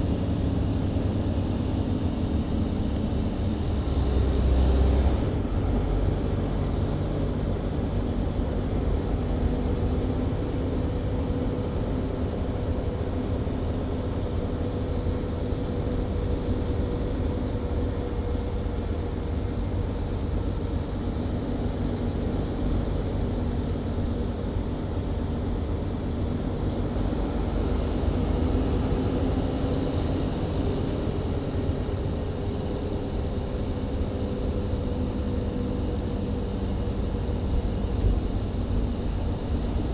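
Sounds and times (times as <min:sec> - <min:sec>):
bus engine droning: 0:00.0 - 0:39.9
road rumble: 0:00.0 - 0:39.9.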